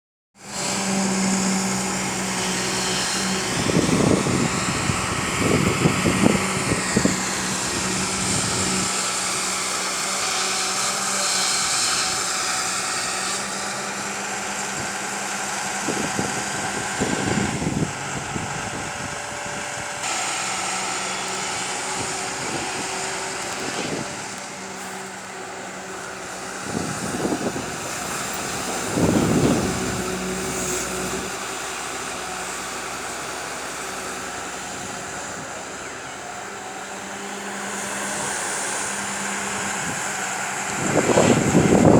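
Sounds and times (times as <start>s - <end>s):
excavator diesel engine running: 0.4s - 41.9s.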